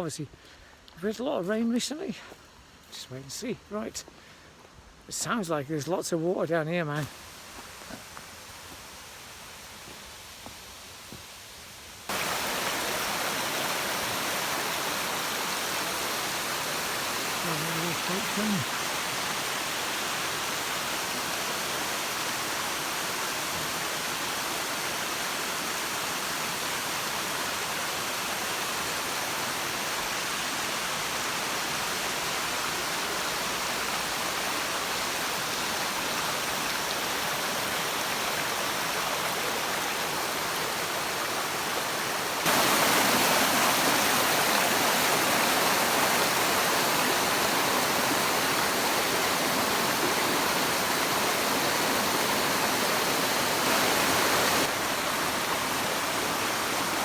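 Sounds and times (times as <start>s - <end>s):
fast-running water rushing: 6.9s - 57.0s.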